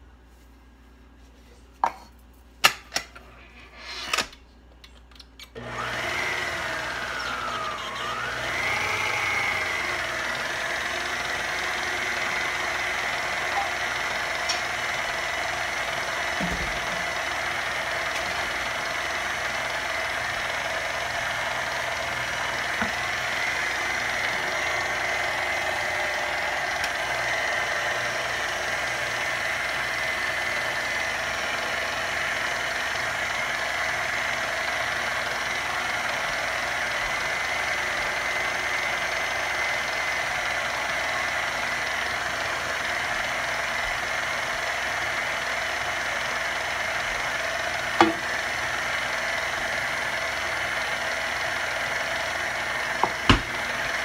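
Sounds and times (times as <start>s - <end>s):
electric mixer whining: 5.6s - 54.0s.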